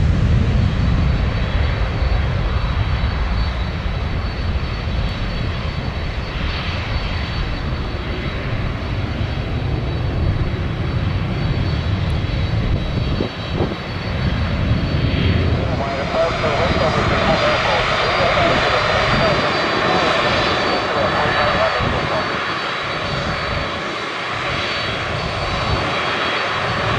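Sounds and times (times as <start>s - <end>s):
jet engines at takeoff power: 0.0s - 26.9s.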